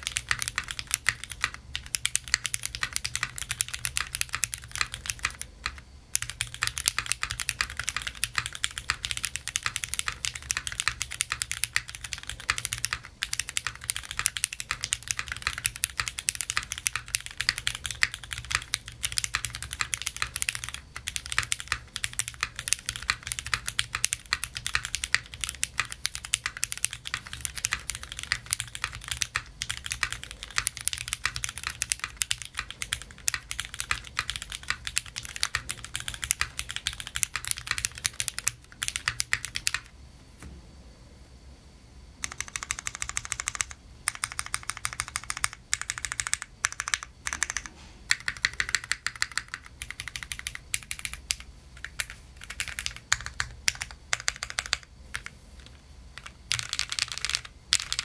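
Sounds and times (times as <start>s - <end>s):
typing on mechanical keyboard: 0.0s - 39.9s, 42.2s - 58.0s.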